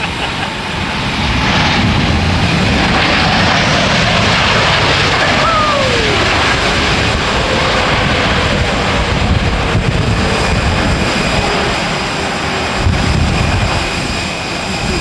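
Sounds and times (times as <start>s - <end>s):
jet airliner engines roaring: 0.0s - 15.0s
wind buffeting microphone: 0.0s - 15.0s.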